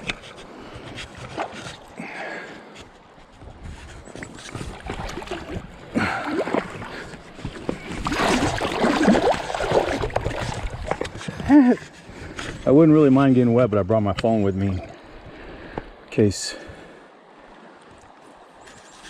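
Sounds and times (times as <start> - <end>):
river water splashing: 0.0 - 19.0.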